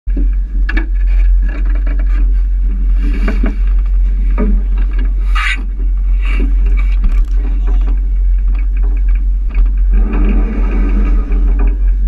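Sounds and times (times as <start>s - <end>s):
boat engine rumble: 0.1s - 12.0s.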